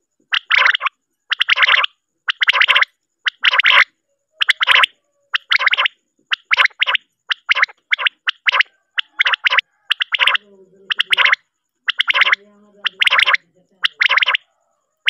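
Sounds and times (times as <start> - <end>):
quail rasping call: 0.3 - 15.0.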